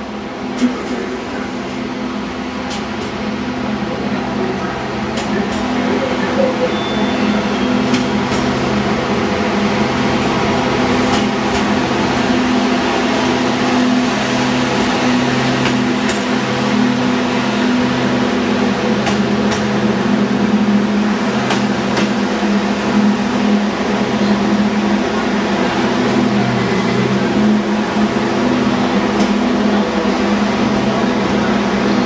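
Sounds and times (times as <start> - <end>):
diesel engine droning: 3.5 - 32.0.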